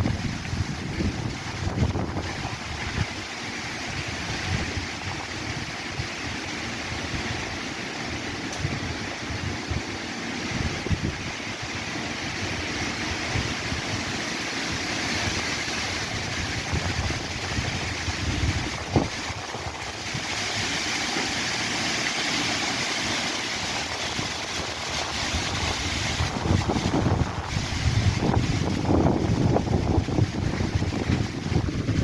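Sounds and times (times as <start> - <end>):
wind rumble on microphone: 0.0 - 21.5, 23.1 - 32.0
leaves rustling in wind: 0.0 - 32.0.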